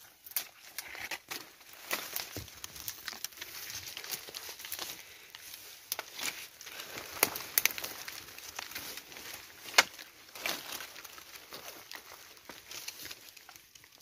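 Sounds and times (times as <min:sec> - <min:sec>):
twig cracking: 0:00.2 - 0:14.0
footsteps crunching dry leaves: 0:01.3 - 0:13.6.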